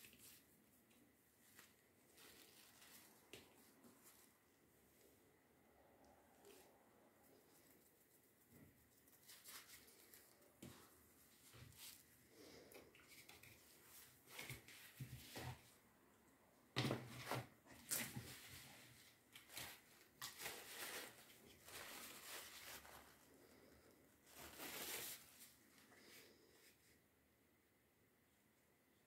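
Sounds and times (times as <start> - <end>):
rustling and handling noises: 0.0 - 27.1.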